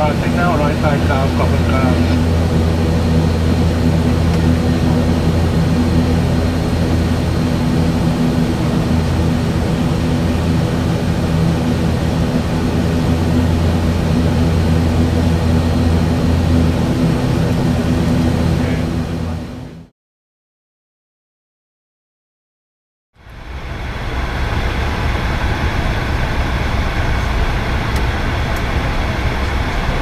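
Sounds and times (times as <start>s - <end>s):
propeller engine drone: 0.0s - 19.9s, 23.2s - 30.0s.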